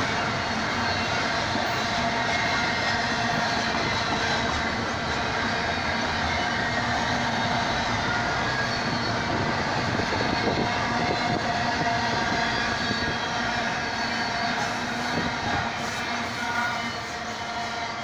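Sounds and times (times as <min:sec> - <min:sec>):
steel wheels running on rails: 0:00.0 - 0:18.0.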